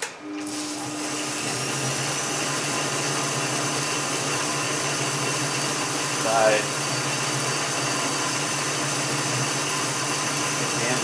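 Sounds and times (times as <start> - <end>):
lathe motor running with hum: 0.0 - 11.0.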